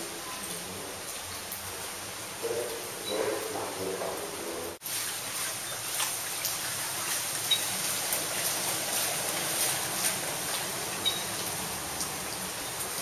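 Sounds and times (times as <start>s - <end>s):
floodwater splashing and trickling: 0.0s - 13.0s.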